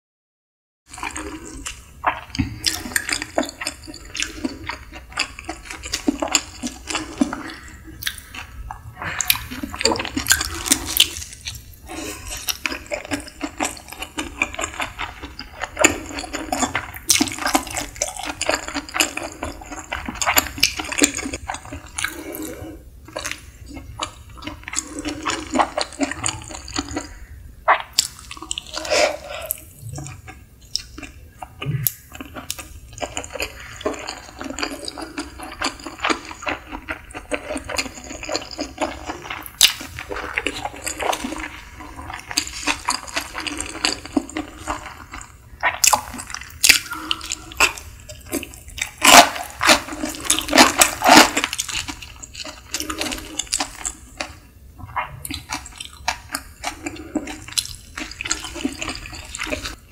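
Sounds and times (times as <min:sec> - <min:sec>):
wet chewing and lip-smacking: 0:00.9 - 0:59.8.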